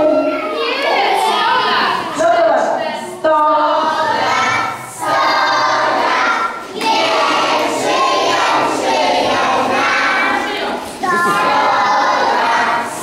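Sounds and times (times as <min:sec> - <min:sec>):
children and adults singing: 0:00.0 - 0:13.0.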